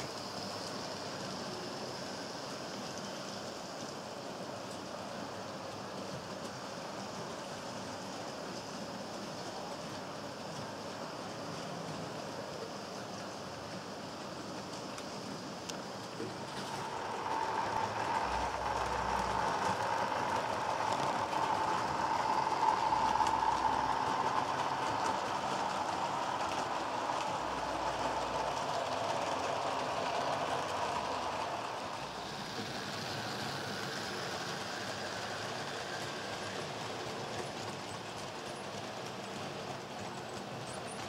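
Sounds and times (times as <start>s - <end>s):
model train motor whine: 0.0s - 41.0s
wheels rattling on rails: 0.0s - 41.0s.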